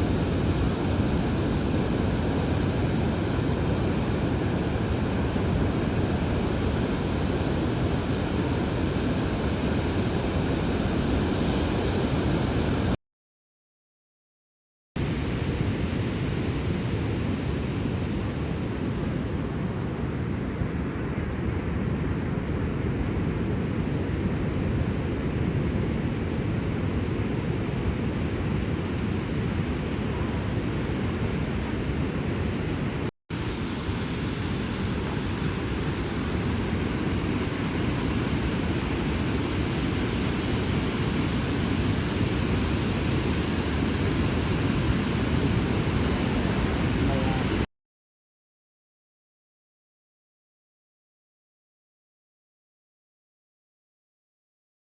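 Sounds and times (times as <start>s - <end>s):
ocean surf: 0.0s - 13.0s, 15.0s - 47.7s.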